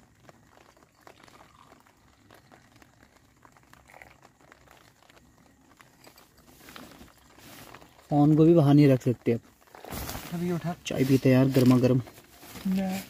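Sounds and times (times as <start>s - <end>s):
tea pouring into steel cups: 0.0s - 9.8s, 10.4s - 13.0s.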